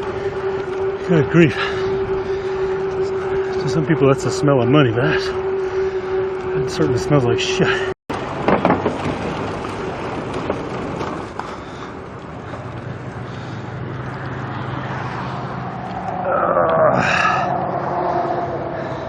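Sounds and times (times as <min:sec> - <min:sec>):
bicycle road noise: 0:00.0 - 0:19.0
traffic engine hum: 0:00.0 - 0:19.0.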